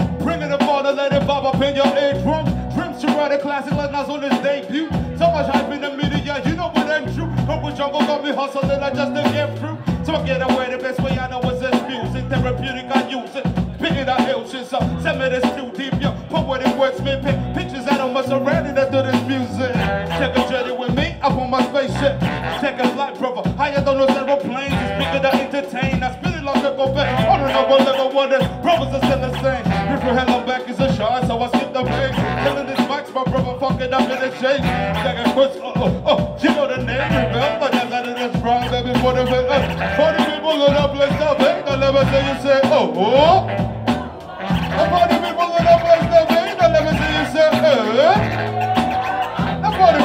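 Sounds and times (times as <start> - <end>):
choppy bass line: 0.0 - 50.0
live groove band music: 0.0 - 50.0.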